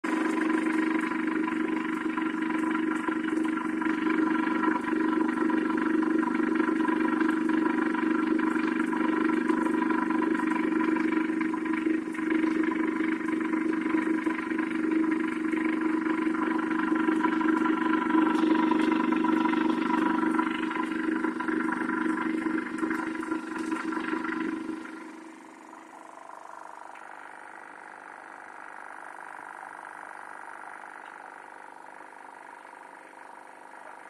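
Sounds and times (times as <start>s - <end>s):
aquarium pump humming: 0.0s - 34.0s.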